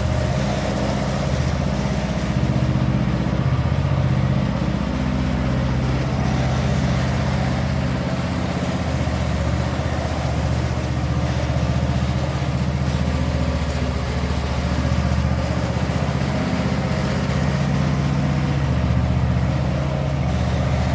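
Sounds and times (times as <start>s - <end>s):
engine humming steadily: 0.0s - 20.9s.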